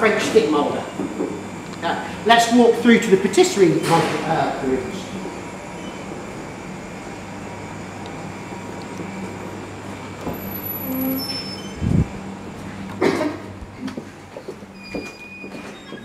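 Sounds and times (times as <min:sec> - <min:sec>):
machinery and ventilation hum: 0:00.0 - 0:16.0.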